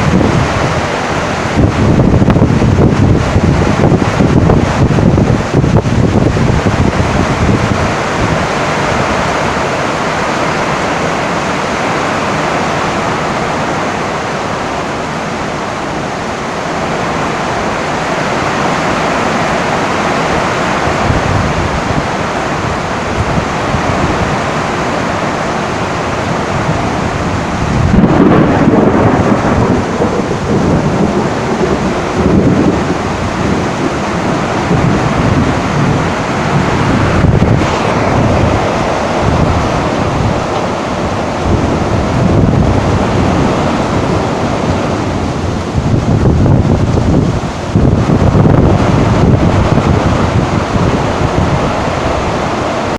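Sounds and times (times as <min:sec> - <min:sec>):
heavy rain on a tin roof: 0:00.0 - 0:52.9
thunder rumbling: 0:00.0 - 0:52.9.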